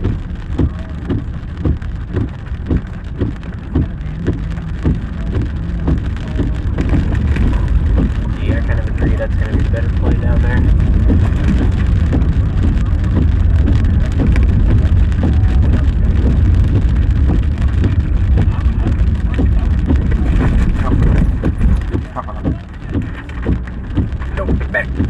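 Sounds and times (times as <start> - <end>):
car road and engine rumble: 0.0 - 25.0
sharp taps: 0.0 - 25.0.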